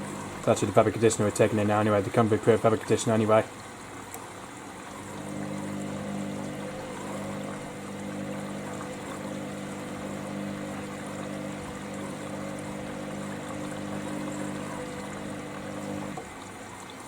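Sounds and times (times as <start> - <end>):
water rushing into washing machine: 0.0 - 17.0.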